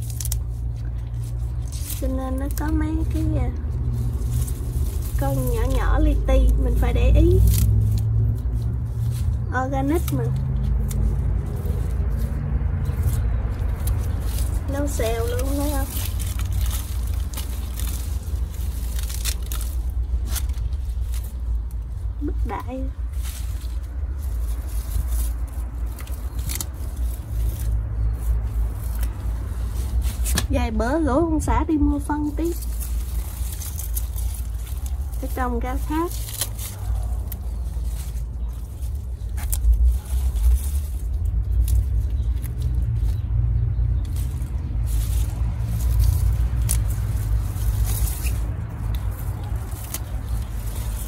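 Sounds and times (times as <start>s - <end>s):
salad greens rustling in colander: 0.0s - 30.8s, 31.8s - 51.0s
low rumble on microphone: 0.0s - 51.0s.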